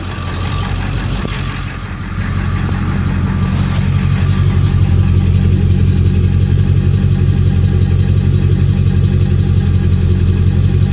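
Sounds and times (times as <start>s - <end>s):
diesel engine idling with knocking: 0.0s - 10.9s.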